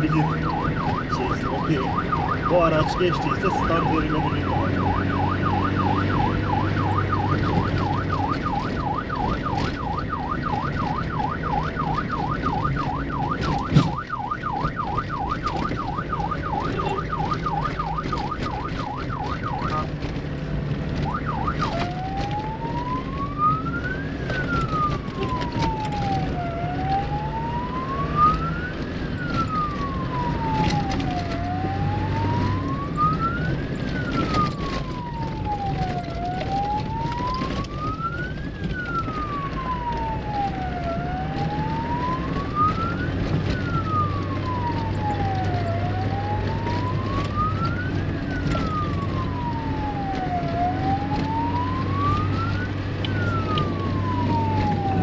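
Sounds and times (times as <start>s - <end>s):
electronic siren yelp and wail: 0.0s - 20.0s, 20.9s - 55.0s.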